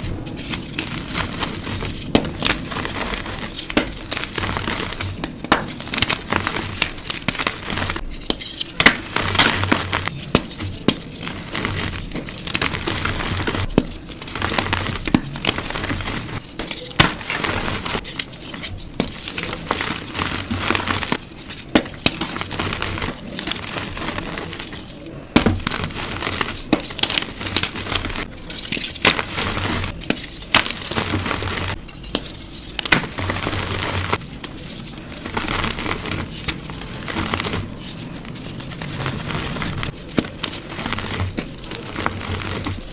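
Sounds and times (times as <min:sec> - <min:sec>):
chalk crunching and cracking: 0:00.0 - 0:42.9.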